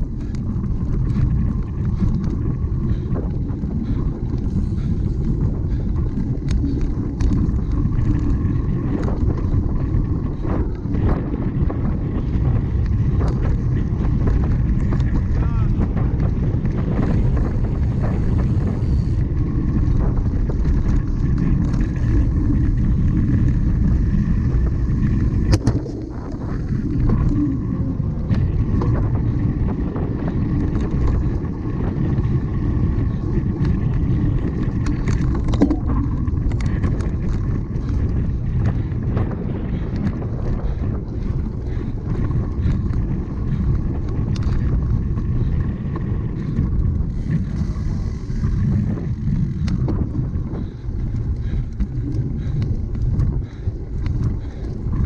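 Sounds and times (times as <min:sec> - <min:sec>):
bike rattling over rough ground: 0:00.0 - 0:55.0
wind buffeting microphone: 0:00.0 - 0:55.0.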